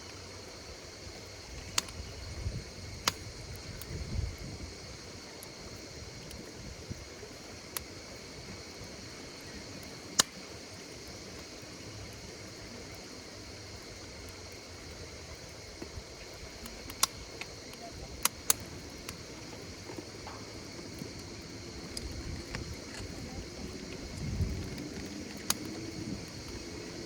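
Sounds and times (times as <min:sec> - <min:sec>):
insect chorus: 0:00.0 - 0:27.0
wood fire crackling: 0:00.0 - 0:27.0.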